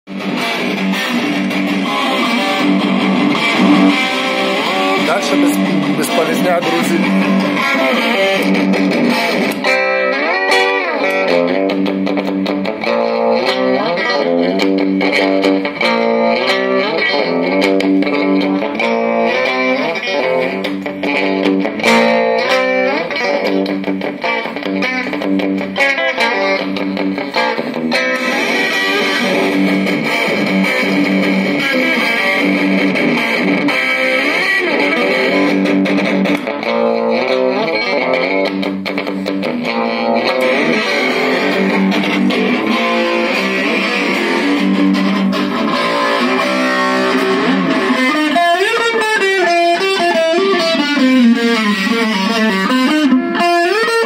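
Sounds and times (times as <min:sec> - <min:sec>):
distorted electric guitar riffs: 0:00.0 - 0:54.0.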